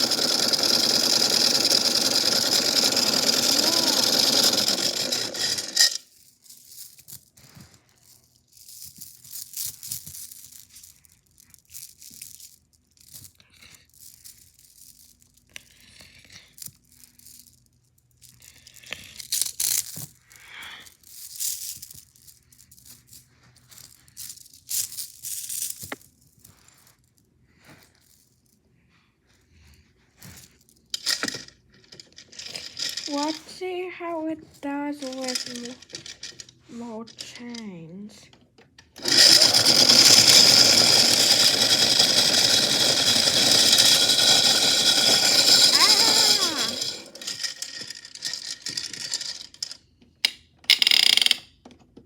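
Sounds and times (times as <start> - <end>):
toy chains rattling and clinking: 0.0 - 28.5, 30.2 - 49.9, 50.7 - 51.4.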